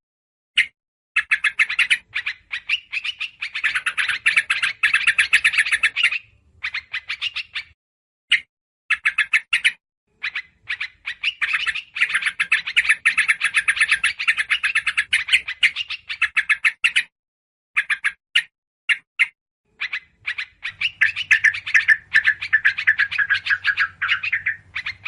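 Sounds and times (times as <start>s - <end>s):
small birds chirping: 0.6s - 17.1s, 17.8s - 25.0s.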